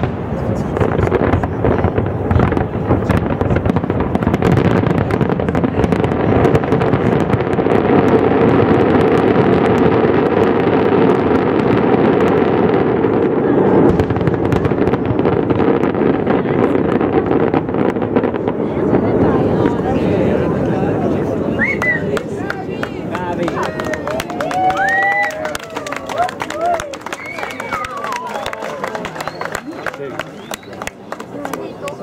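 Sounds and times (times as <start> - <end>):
fireworks bursting: 0.0 - 32.0
fireworks crackles: 0.0 - 32.0.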